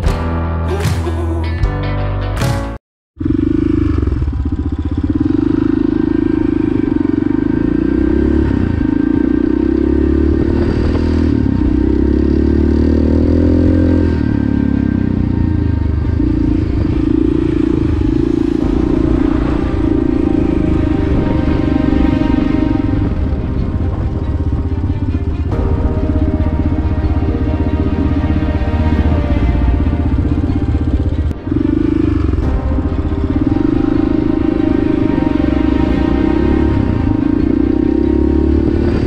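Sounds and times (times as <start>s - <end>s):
dirt bike engine running: 3.2s - 39.0s.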